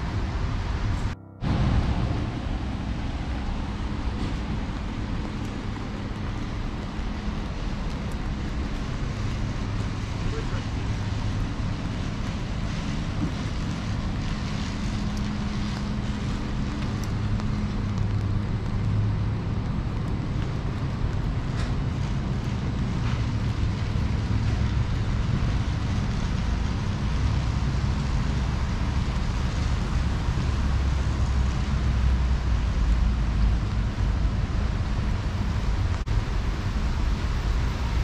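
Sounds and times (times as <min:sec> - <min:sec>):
city traffic rumble: 0:00.0 - 0:38.0.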